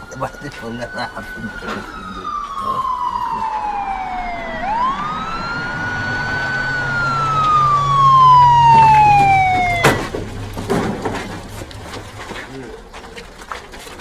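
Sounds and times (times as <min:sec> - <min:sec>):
police siren wailing: 0:00.0 - 0:11.5.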